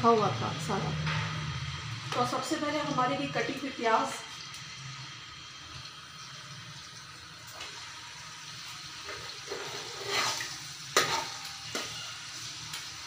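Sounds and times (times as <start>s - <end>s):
onions sizzling in hot fat: 0.0s - 13.0s.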